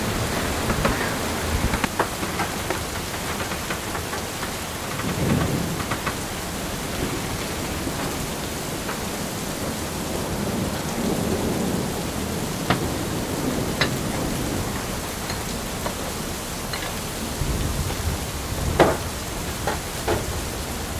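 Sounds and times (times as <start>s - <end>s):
heavy rain hissing: 0.0s - 20.9s
thunder rumbles: 0.0s - 20.9s.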